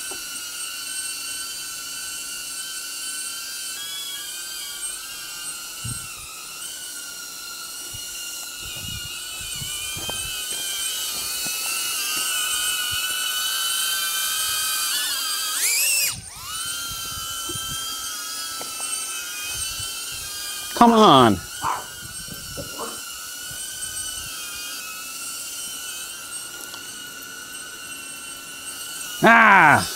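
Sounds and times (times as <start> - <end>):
drone propellers whining: 0.0 - 29.9.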